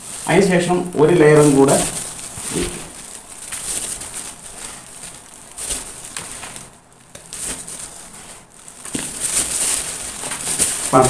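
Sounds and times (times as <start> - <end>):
plastic bag crinkling and rustling: 0.0 - 11.0.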